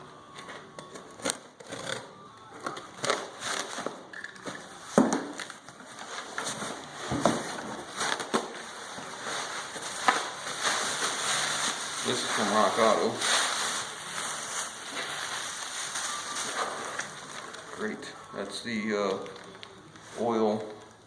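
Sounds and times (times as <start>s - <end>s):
cardboard packaging crackling: 0.4s - 21.0s.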